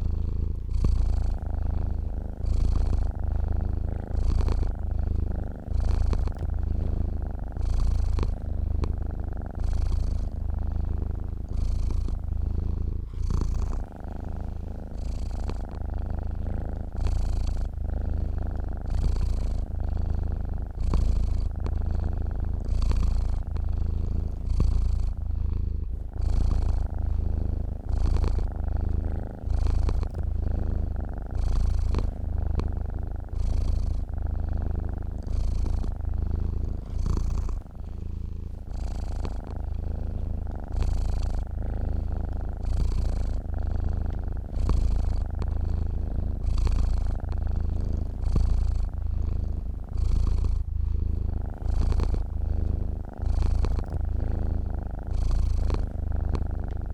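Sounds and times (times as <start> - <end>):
cat purring: 0.0 - 56.9.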